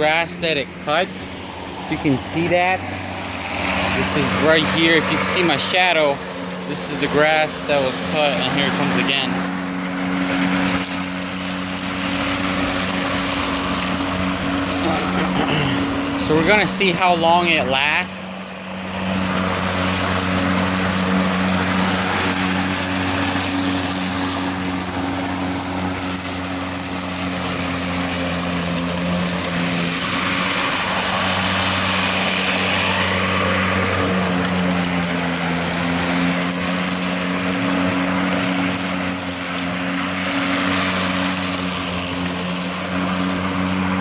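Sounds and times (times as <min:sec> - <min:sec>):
electric lawn mower running: 0:00.0 - 0:44.0.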